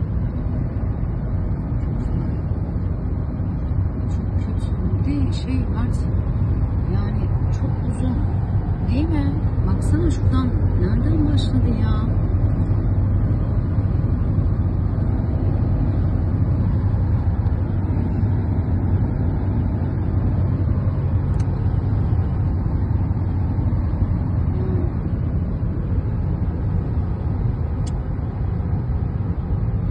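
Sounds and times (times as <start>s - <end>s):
car driving interior rumble: 0.0s - 29.9s.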